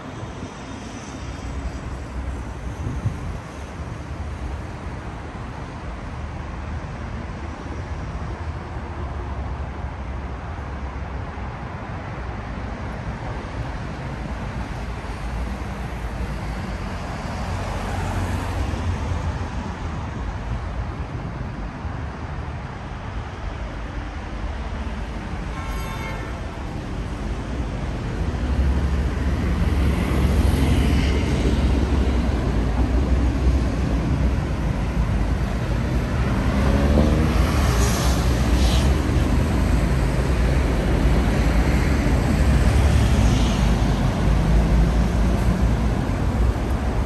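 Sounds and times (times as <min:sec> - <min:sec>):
street traffic rumble: 0:00.0 - 0:47.0.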